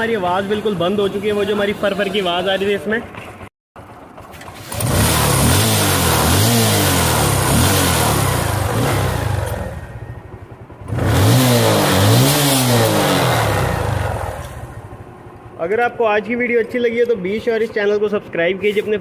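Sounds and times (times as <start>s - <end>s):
motorcycle engine revving: 0.0s - 17.7s.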